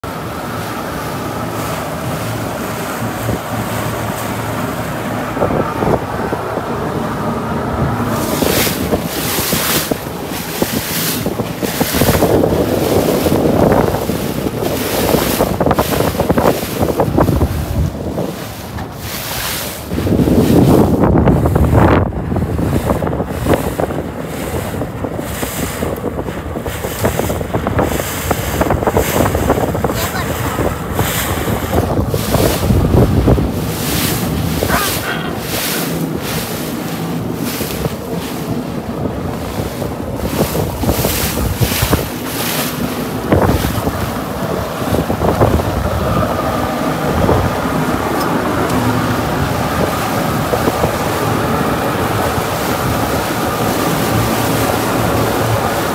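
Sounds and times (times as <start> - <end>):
water splashing along boat hull: 0.0 - 55.9
wind buffeting microphone: 0.0 - 55.9.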